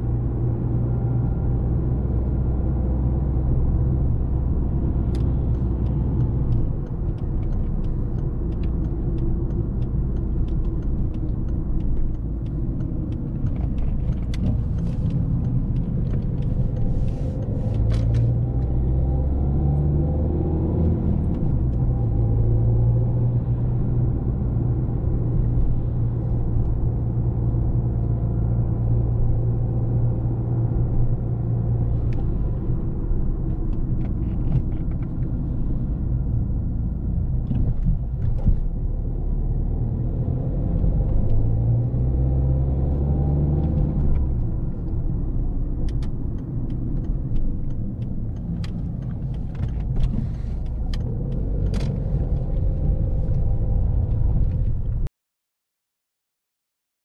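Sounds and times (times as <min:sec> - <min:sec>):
diesel car engine driving: 0:00.0 - 0:55.1.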